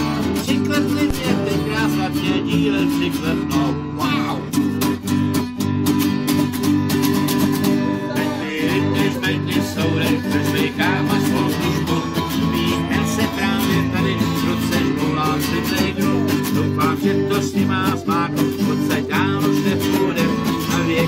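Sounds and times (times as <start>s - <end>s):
group singing: 0.0s - 4.4s, 7.5s - 21.0s
acoustic guitars strumming: 0.0s - 21.0s.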